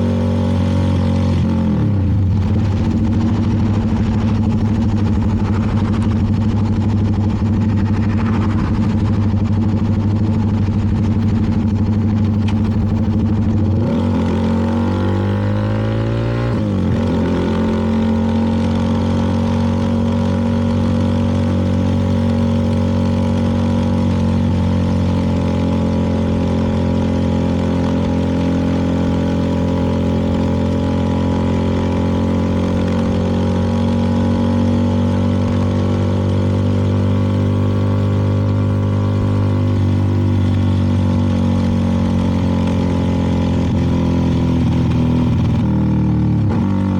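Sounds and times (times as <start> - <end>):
motorcycle engine accelerating and cruising: 0.0 - 46.9.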